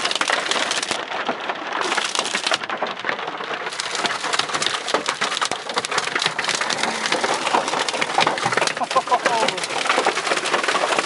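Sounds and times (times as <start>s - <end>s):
hail drumming on a car: 0.0s - 11.0s.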